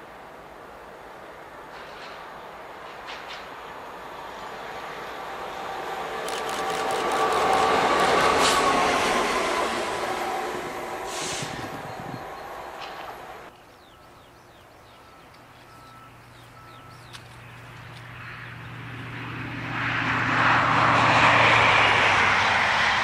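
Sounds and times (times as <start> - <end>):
diesel train engine hum: 0.0 - 23.0
other train noise: 0.0 - 23.0.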